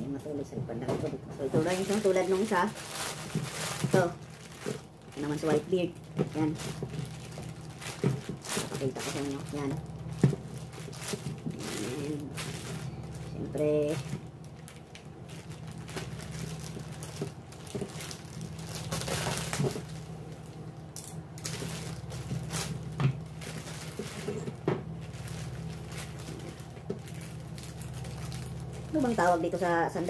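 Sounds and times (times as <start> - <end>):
plastic bag crinkling: 1.2 - 30.0.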